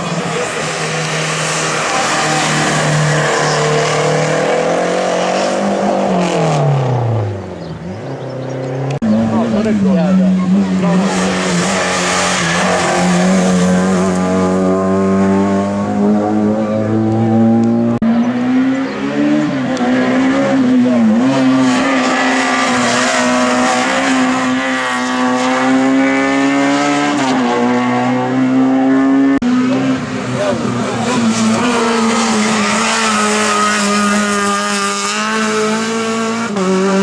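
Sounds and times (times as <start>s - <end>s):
racing car engine at high revs: 0.0s - 37.0s.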